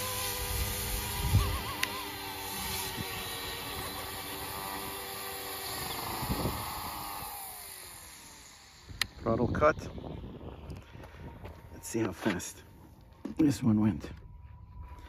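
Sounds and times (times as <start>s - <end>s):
rc helicopter motor whine: 0.0s - 13.1s.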